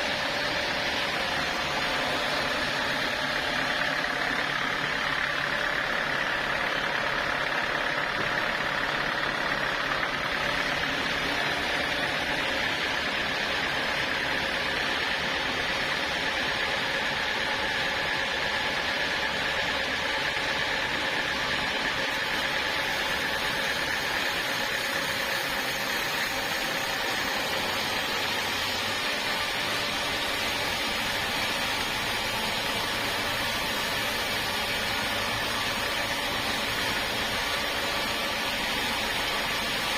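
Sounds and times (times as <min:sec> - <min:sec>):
high whine: 0:00.0 - 0:39.9
sawmill machinery running: 0:00.0 - 0:39.9.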